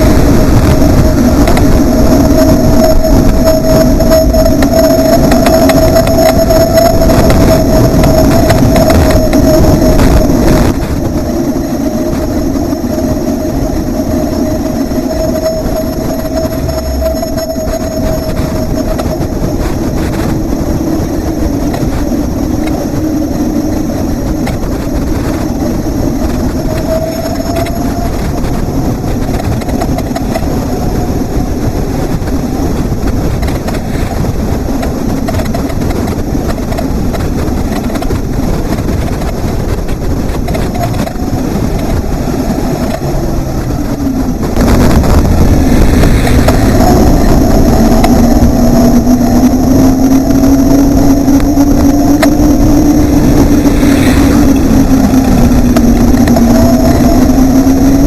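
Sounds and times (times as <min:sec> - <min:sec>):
low hum: 0:00.0 - 0:58.0
road rumble: 0:00.0 - 0:58.0
wind buffeting microphone: 0:00.0 - 0:58.0.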